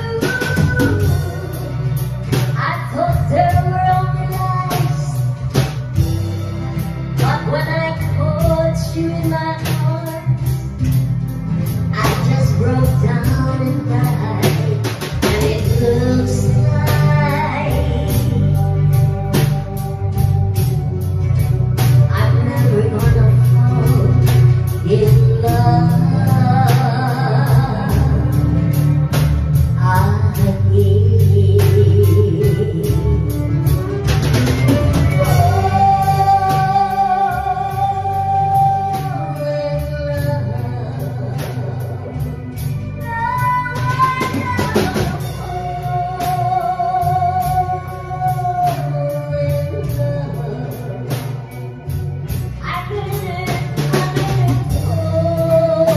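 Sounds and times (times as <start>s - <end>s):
woman singing into microphone: 0.0s - 6.1s, 7.0s - 55.9s
band music with steady beat: 0.0s - 55.9s.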